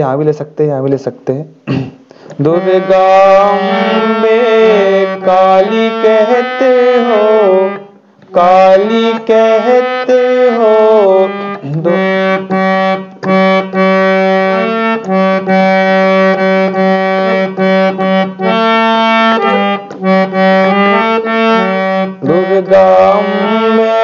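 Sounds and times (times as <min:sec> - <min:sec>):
harmonium melody: 0:02.0 - 0:24.0
person singing: 0:02.3 - 0:24.0.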